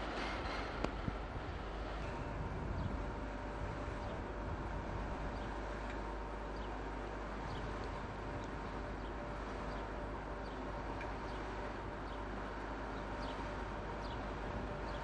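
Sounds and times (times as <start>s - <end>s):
electric locomotive rumble and hum: 0.0s - 15.0s.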